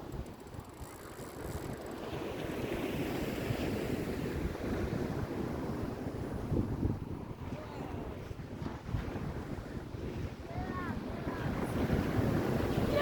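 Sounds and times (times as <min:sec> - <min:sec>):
wind rumbling on microphone: 0:00.0 - 0:13.0
ocean surf washing on beach: 0:01.8 - 0:13.0.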